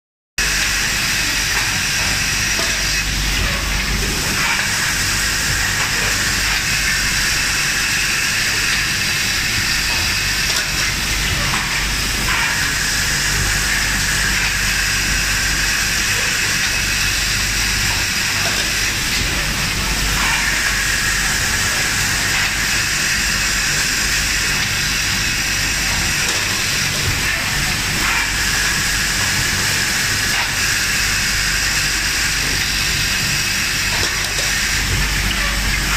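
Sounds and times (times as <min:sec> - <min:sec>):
grinding machines hissing and humming: 0:00.4 - 0:35.9.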